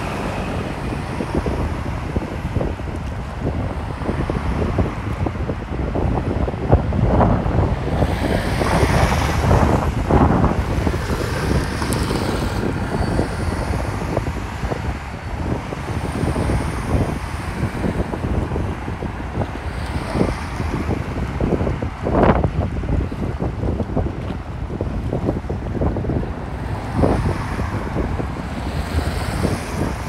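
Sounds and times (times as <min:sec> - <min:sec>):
road traffic passing: 0:00.0 - 0:30.0
wind buffeting microphone: 0:00.0 - 0:30.0.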